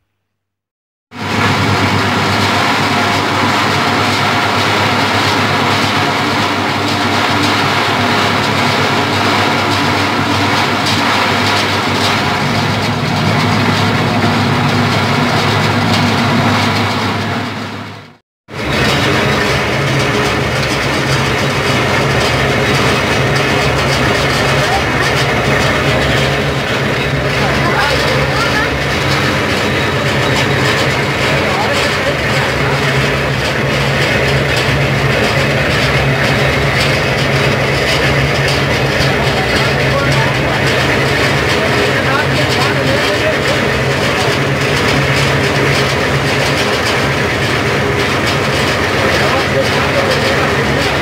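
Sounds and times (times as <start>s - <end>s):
cane crusher machine running: 1.1s - 51.0s
low hum: 1.2s - 51.0s.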